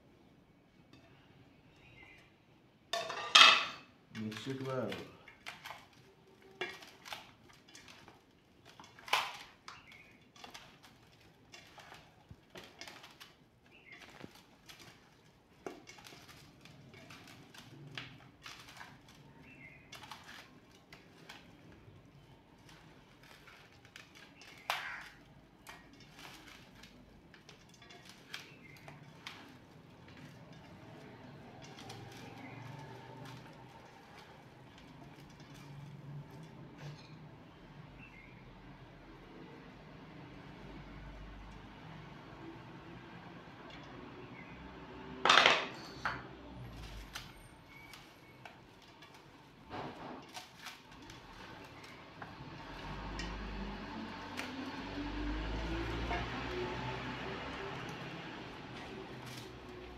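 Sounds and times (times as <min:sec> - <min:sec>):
hands mixing fish in plate: 0:02.9 - 0:38.1, 0:46.3 - 0:59.9.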